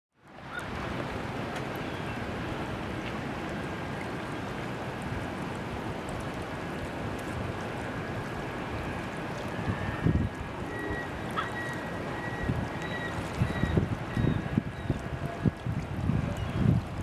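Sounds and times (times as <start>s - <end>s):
stream water running over gravel: 0.4s - 17.0s.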